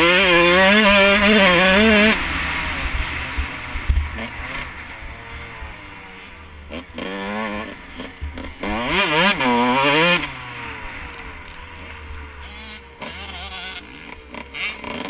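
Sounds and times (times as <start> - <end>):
motocross engine revving: 0.0 - 15.0.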